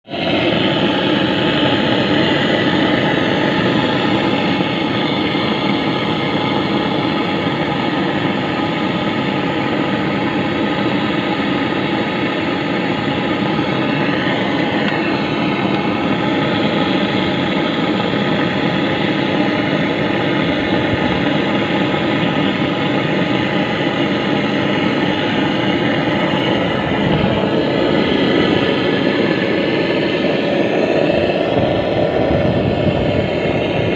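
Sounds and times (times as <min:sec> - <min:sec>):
motor running steadily: 0:00.0 - 0:33.9.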